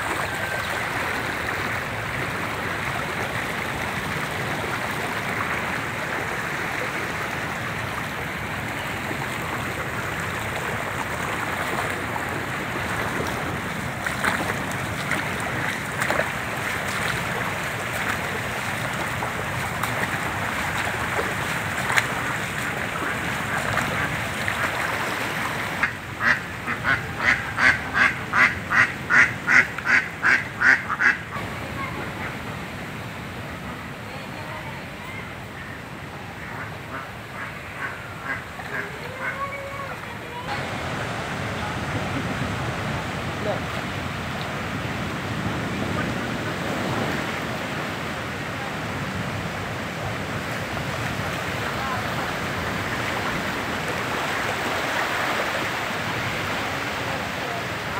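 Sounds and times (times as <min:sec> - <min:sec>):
water rushing over a wall: 0:00.0 - 0:35.2, 0:36.3 - 0:57.9.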